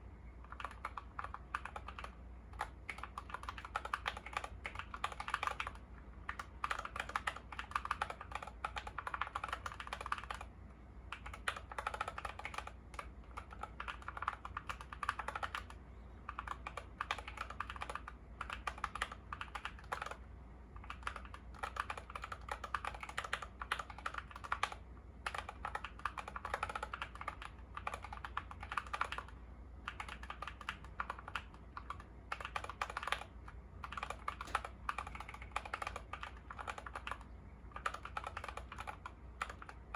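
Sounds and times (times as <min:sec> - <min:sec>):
mechanical keyboard typing: 0:00.4 - 0:10.5, 0:11.1 - 0:20.2, 0:20.8 - 0:39.9.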